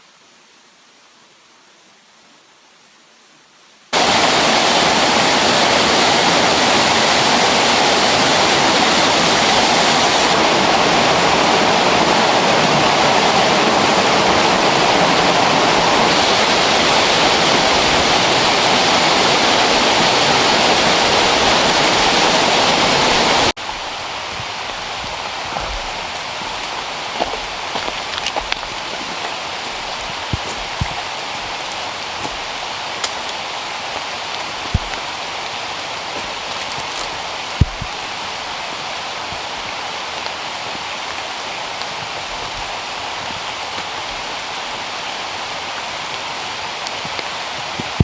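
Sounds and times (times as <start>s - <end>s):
hiss of water: 3.9s - 48.0s
waterfall rushing: 3.9s - 48.0s.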